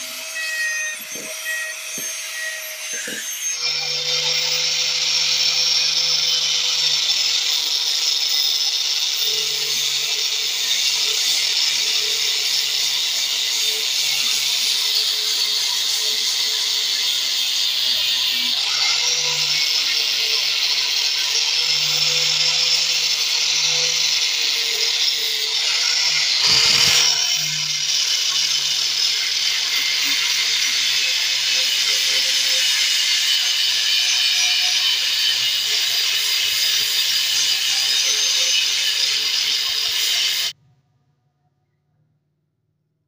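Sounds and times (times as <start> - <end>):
angle grinder grinding metal: 0.0 - 40.6.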